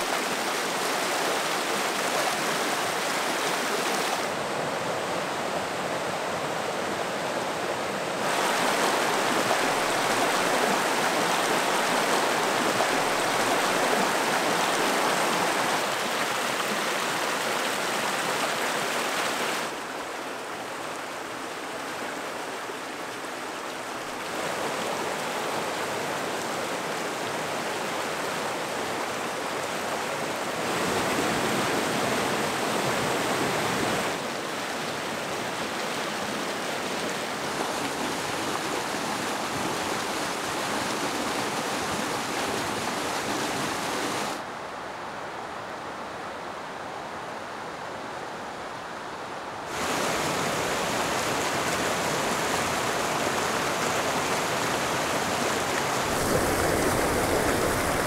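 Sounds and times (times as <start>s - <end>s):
river rushing over rocks: 0.0s - 45.1s, 48.7s - 58.0s.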